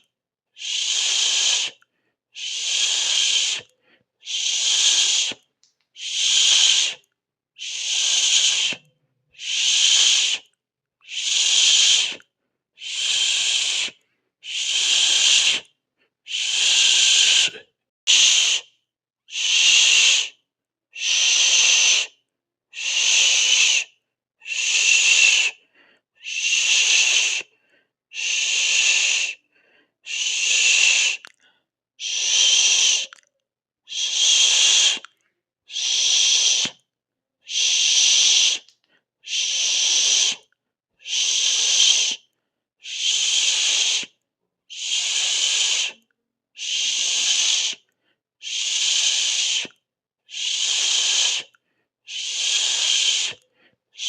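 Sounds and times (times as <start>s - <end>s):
person hissing: 0.6s - 1.8s, 2.4s - 8.8s, 9.4s - 12.2s, 12.8s - 15.7s, 16.3s - 18.7s, 19.3s - 20.4s, 21.0s - 22.2s, 22.8s - 31.4s, 32.0s - 33.2s, 33.9s - 35.1s, 35.7s - 36.8s, 37.5s - 46.0s, 46.6s - 54.0s.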